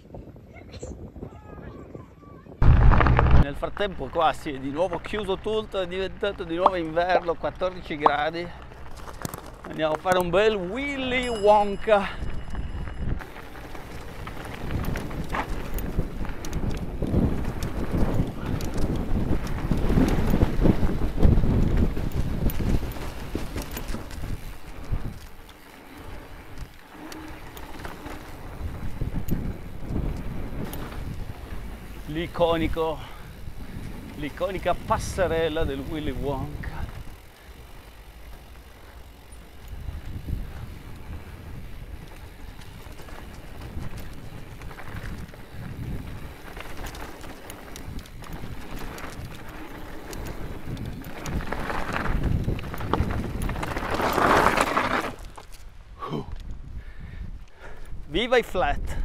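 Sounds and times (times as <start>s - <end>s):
wind on microphone: 0.0s - 6.8s, 11.2s - 25.4s, 26.0s - 37.3s, 39.0s - 59.0s
bike clicks and rattles: 2.6s - 59.0s
bike tyres on dirt and gravel: 2.6s - 59.0s.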